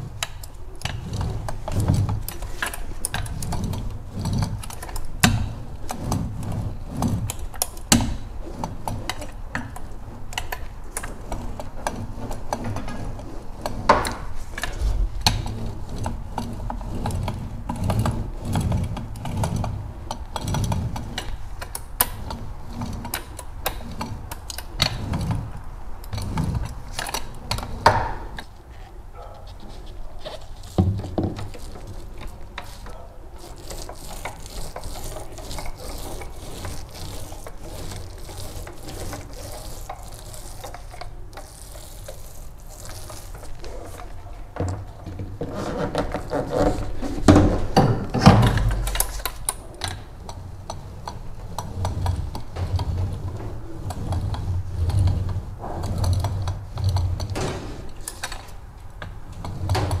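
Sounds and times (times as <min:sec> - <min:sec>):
roller frame clicks and knocks: 0:00.0 - 0:28.5, 0:29.2 - 1:00.0
paint roller strokes: 0:00.0 - 1:00.0.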